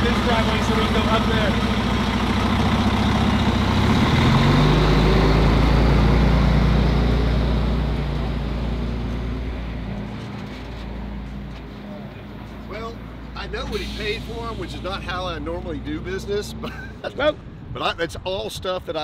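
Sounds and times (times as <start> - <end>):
truck diesel engine: 0.0 - 17.6.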